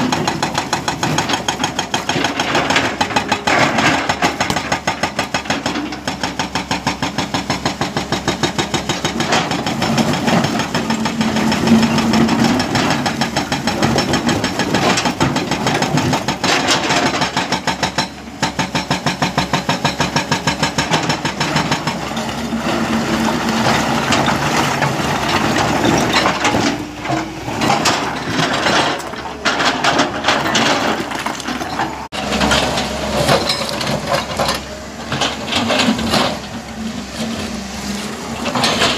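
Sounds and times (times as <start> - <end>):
hydraulic rock breaker hammering: 0.0 - 36.8
diesel engine running: 0.0 - 38.9.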